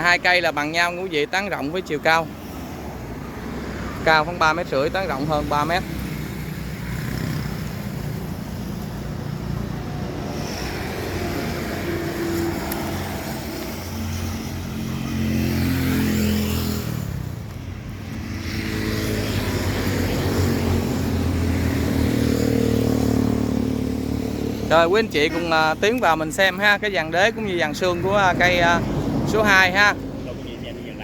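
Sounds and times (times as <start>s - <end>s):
vehicles passing on road: 0.0s - 31.0s.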